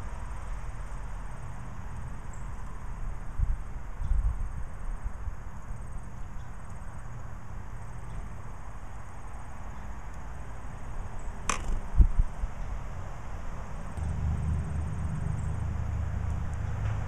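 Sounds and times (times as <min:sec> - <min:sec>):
distant road traffic rumble: 0:00.0 - 0:17.0
faint insect trill: 0:00.0 - 0:17.0.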